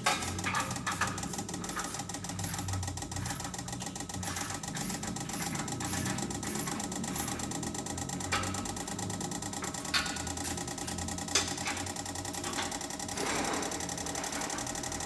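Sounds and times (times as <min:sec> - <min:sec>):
fuel injectors clicking rapidly: 0:00.0 - 0:15.0
pump humming: 0:00.0 - 0:15.0.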